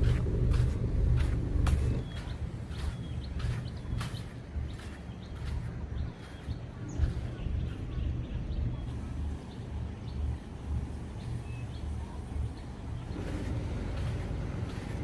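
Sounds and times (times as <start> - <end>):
faint engine hum: 0.0 - 15.0
wind buffeting microphone: 0.0 - 15.0.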